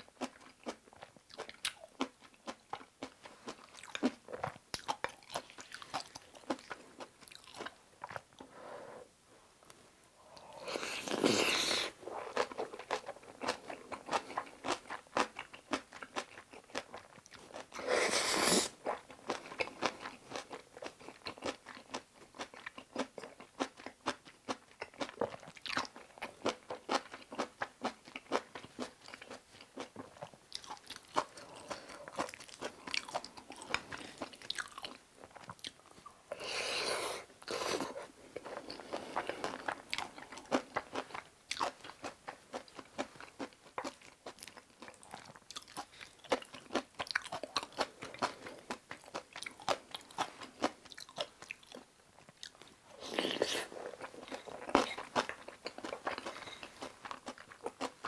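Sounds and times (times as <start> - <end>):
person chewing and biting food: 0.2 - 8.3, 10.4 - 58.0.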